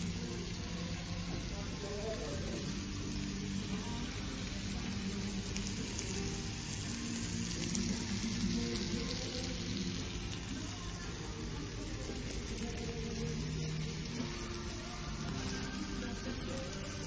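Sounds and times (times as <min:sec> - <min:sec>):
background music: 0:00.0 - 0:17.0
food sizzling and crackling: 0:00.0 - 0:17.0.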